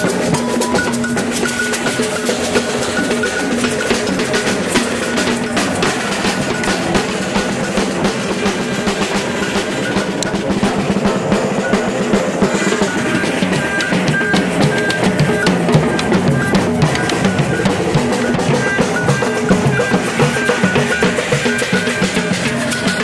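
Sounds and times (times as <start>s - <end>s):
samba drumming: 0.0s - 23.0s.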